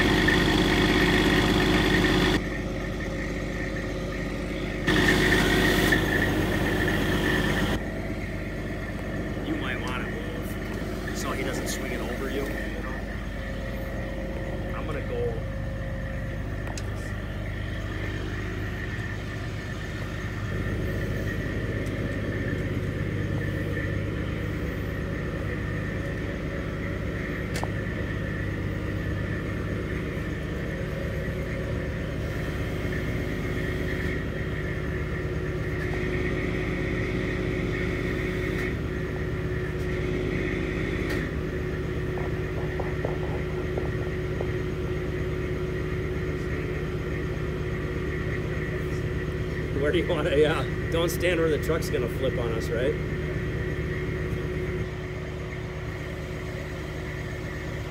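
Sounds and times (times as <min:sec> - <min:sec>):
diesel engine running: 0:00.0 - 0:57.9
hydraulic crane whine: 0:00.0 - 0:57.9.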